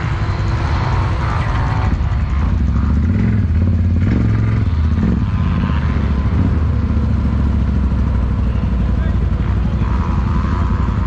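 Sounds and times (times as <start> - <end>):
quad bike engines running: 0.0 - 11.0.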